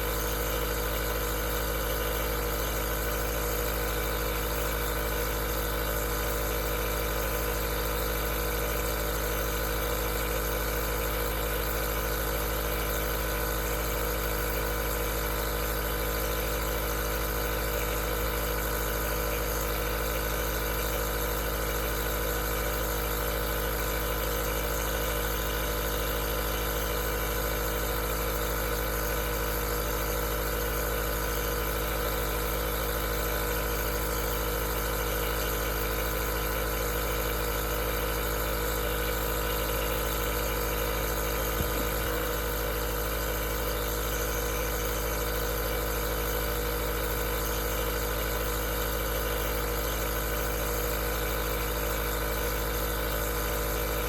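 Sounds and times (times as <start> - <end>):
nebulizer humming with hiss: 0.0 - 54.0.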